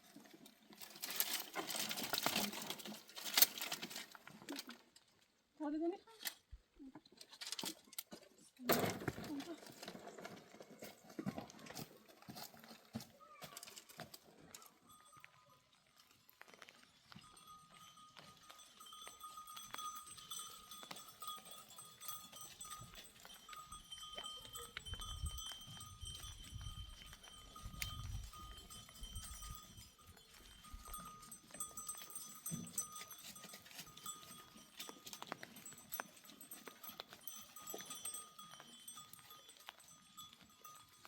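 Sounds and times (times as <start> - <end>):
animal bells ringing: 0.8 - 4.2, 8.8 - 41.0.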